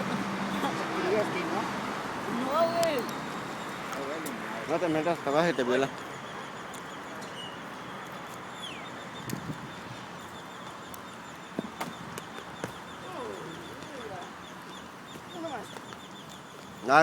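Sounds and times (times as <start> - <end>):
bird chirps: 2.3 - 17.0.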